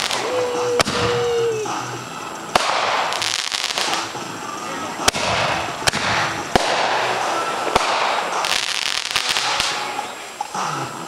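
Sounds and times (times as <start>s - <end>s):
fireworks bangs: 0.0s - 10.6s
fireworks crackling: 0.0s - 11.0s.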